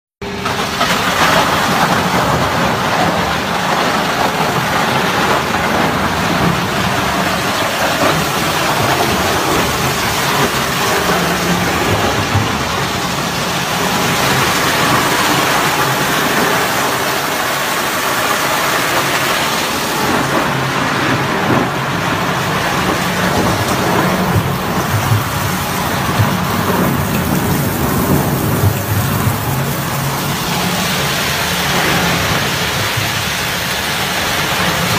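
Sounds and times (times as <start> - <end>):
wood grinder shredding wood: 0.2 - 34.9.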